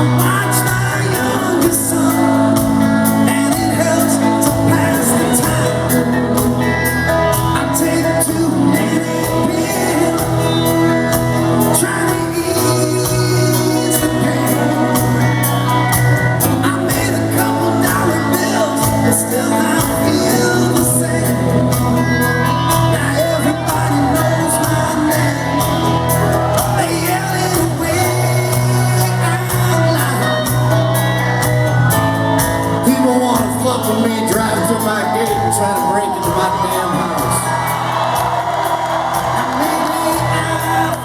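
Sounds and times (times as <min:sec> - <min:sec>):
live rock band playing: 0:00.0 - 0:41.0
person singing: 0:00.0 - 0:41.0.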